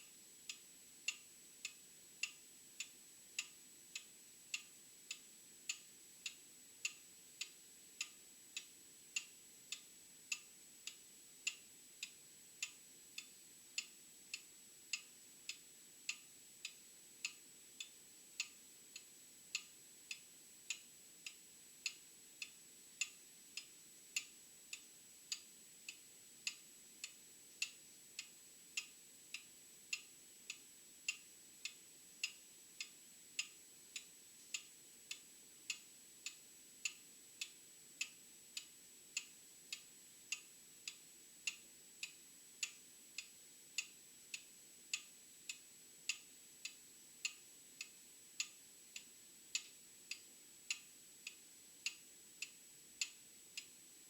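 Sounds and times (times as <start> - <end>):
mechanical clock ticking: 0.5 - 53.7.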